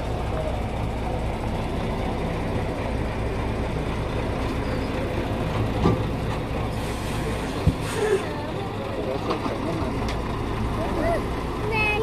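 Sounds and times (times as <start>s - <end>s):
lorry diesel engine humming: 0.0s - 12.0s.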